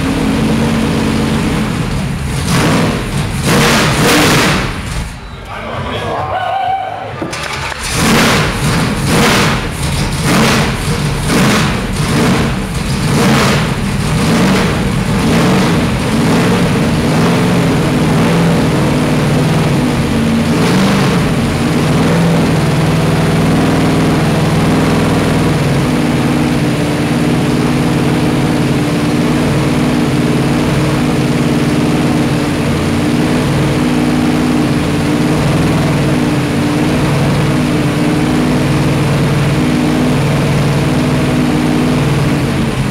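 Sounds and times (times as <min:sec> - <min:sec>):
race car engine revving: 0:00.0 - 0:05.2, 0:07.2 - 0:42.9.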